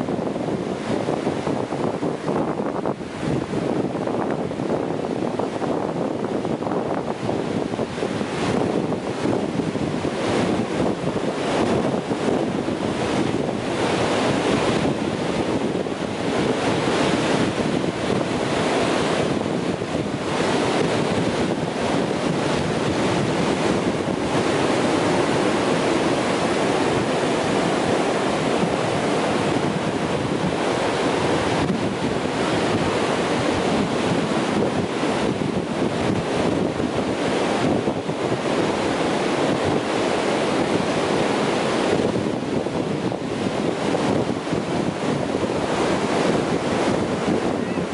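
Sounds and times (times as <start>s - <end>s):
ocean surf breaking: 0.0s - 47.9s.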